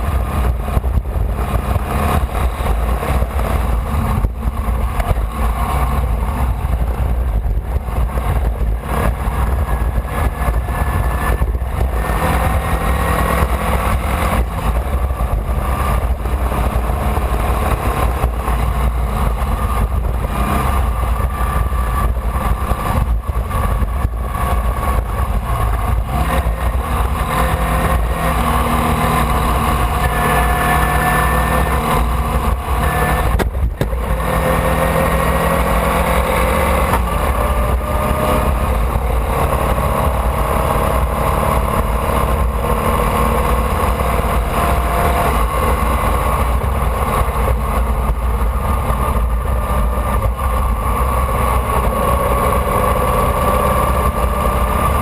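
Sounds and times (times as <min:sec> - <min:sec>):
flat-four engine running: 0:00.0 - 0:55.0.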